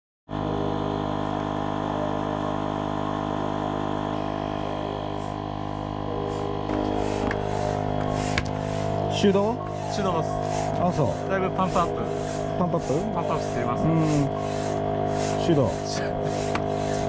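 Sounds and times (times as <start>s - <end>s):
mechanical hum: 0.3s - 17.0s.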